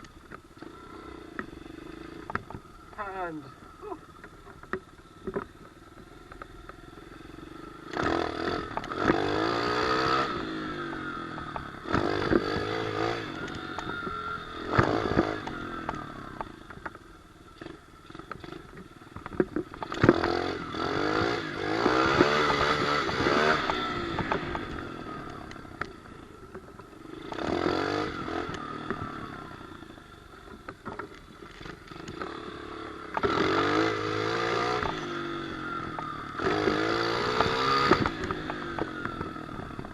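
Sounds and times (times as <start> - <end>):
motorbike engine revving: 0.6 - 4.0, 7.0 - 39.9.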